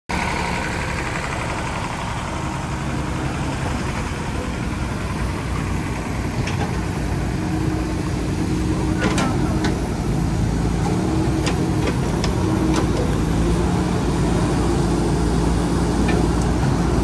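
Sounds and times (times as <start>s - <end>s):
diesel engine idling: 0.1s - 17.0s.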